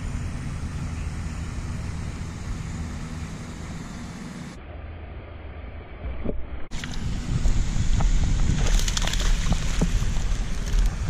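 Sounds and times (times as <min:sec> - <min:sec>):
low outdoor rumble and hiss: 0:00.0 - 0:11.0.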